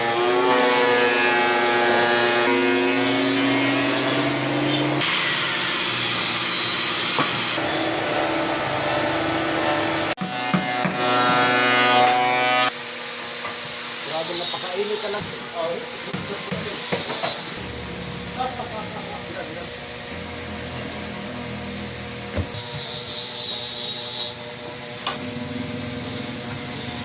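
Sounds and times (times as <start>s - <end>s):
power tools cutting wood: 0.0s - 27.0s.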